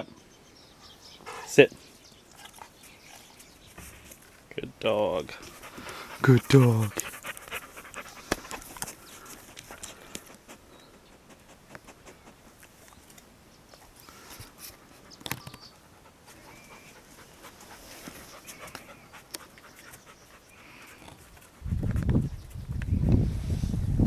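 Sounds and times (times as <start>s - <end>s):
dog panting: 0.8s - 4.4s, 5.1s - 13.2s, 13.8s - 22.6s.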